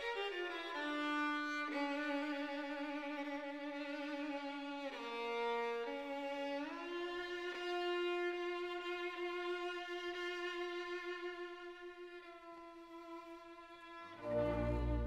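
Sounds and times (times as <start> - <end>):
slow violin melody: 0.0 - 15.0.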